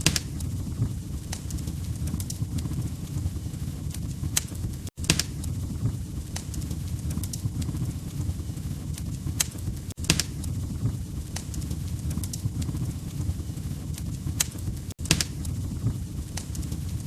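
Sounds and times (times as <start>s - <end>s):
log fire crackling: 0.0s - 17.0s.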